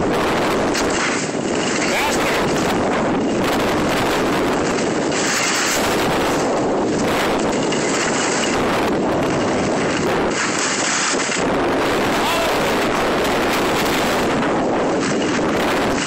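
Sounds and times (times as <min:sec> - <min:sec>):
wind rushing over microphone: 0:00.0 - 0:16.0
skis scraping on packed snow: 0:00.1 - 0:16.0.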